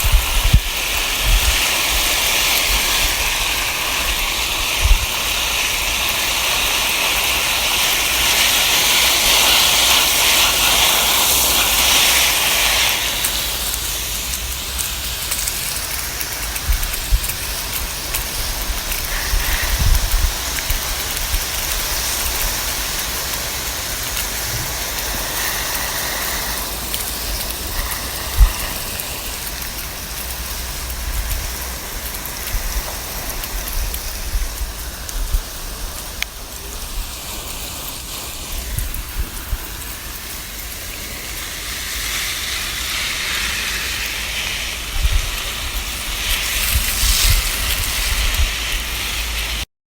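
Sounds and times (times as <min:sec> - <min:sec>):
hose spraying water on plants: 0:00.0 - 0:49.7.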